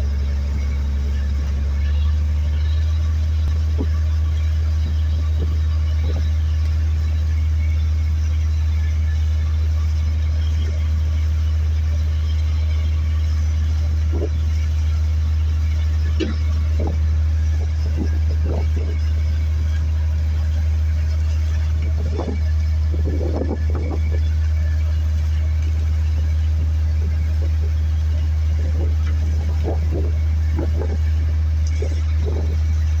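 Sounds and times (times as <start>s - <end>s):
boat engine droning: 0.0s - 33.0s.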